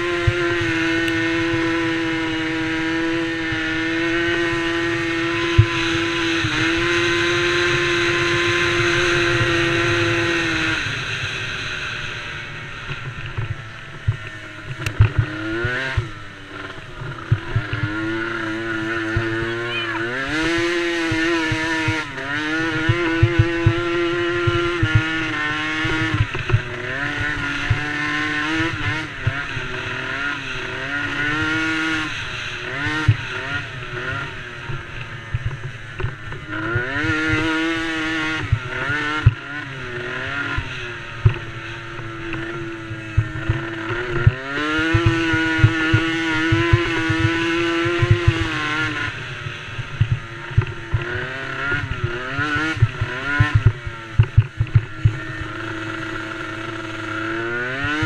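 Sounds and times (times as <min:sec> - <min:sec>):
quad engines revving: 0:00.0 - 0:58.0.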